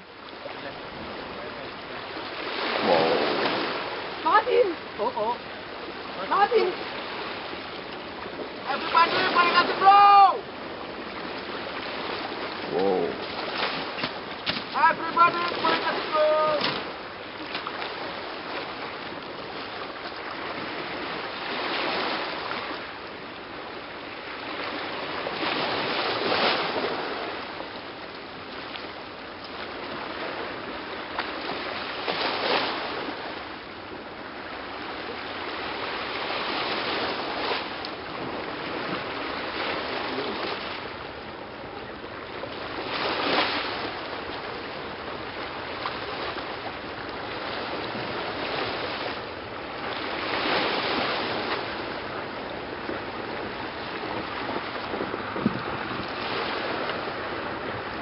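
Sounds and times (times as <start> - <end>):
sea waves washing ashore: 0.0 - 58.0.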